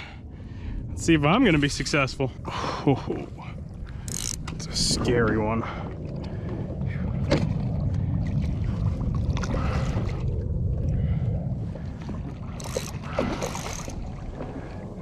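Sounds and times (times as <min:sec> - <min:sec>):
water sloshing against hull: 0:00.0 - 0:15.0
wind on microphone: 0:00.0 - 0:15.0.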